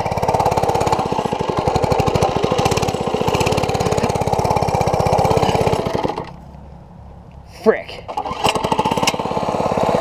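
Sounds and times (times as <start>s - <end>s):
mini bike engine bogging: 0.0s - 6.4s, 8.0s - 10.0s.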